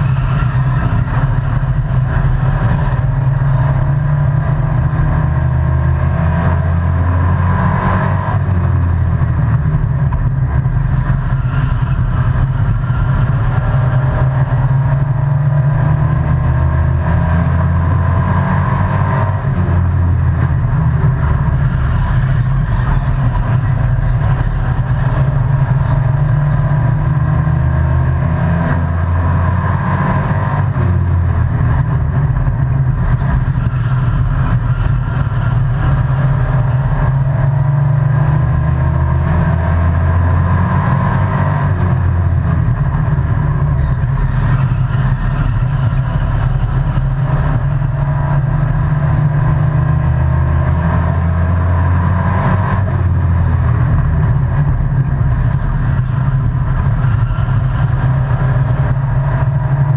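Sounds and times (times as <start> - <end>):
race truck engine revving: 0.0 - 59.9.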